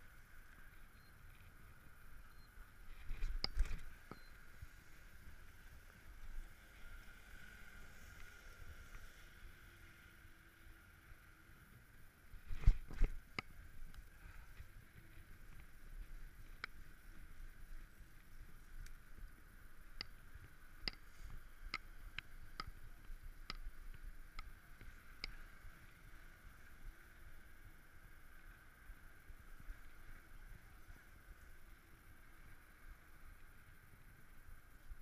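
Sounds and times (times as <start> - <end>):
wind and rolling tyres rumble: 0.0 - 35.0.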